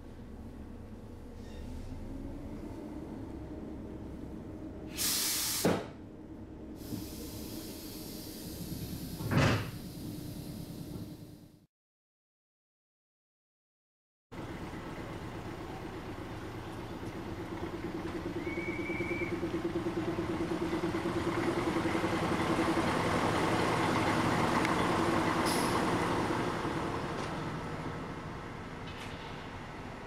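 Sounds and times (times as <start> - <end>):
locomotive diesel engine running: 0.0 - 11.6, 14.4 - 30.0.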